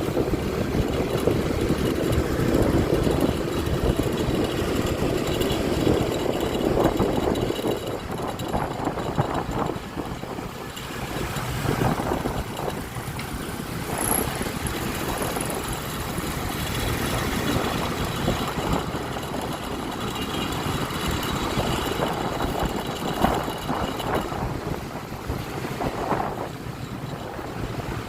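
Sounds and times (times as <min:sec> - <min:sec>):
scooter engine running: 0:00.0 - 0:28.0
street traffic: 0:00.0 - 0:28.0.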